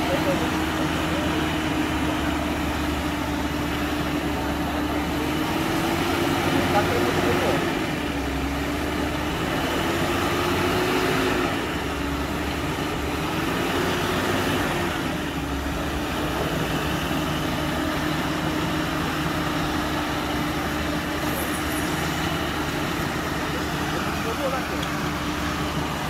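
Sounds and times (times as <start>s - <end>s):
diesel engine pulling under load: 0.0s - 26.0s.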